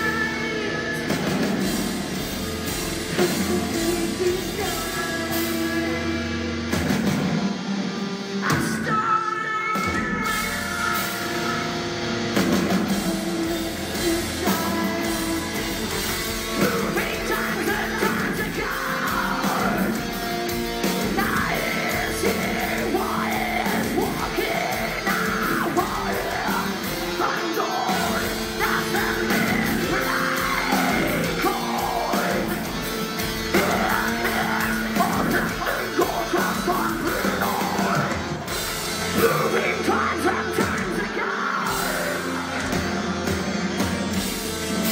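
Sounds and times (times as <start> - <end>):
person singing: 0.0 - 6.7, 8.3 - 43.9
drums: 0.0 - 44.9
electric guitars: 0.0 - 44.9
metal band playing live: 0.0 - 44.9.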